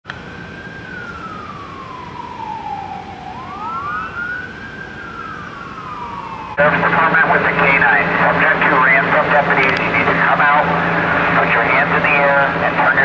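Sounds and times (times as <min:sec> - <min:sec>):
police siren wailing: 0:00.1 - 0:13.0.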